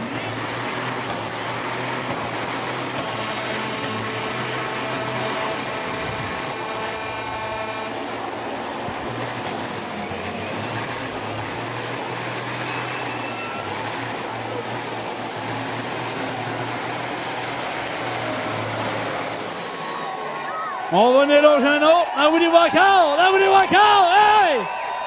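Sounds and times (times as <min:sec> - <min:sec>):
truck diesel engines racing: 0:00.0 - 0:25.0.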